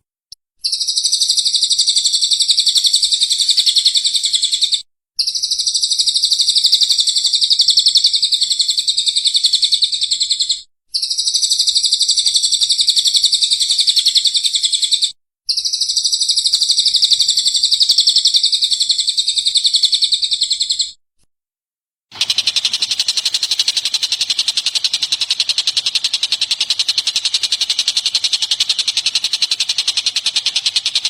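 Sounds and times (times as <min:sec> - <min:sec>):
bird high-pitched trill: 0:00.6 - 0:21.0, 0:22.1 - 0:31.0.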